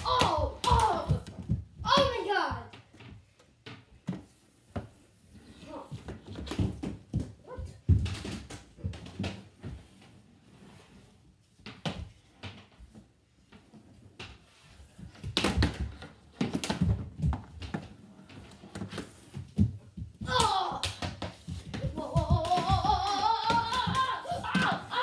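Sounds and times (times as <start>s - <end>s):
plastic hockey sticks clacking: 0.0s - 10.1s, 11.6s - 25.0s
sticks slapping hardwood floor: 0.0s - 10.1s, 11.6s - 25.0s.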